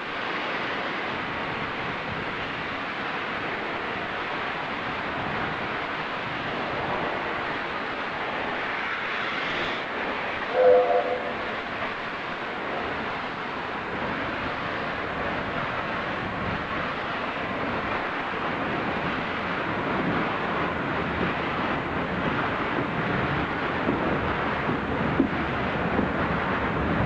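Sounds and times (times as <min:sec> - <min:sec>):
steam train running past: 0:00.0 - 0:27.0.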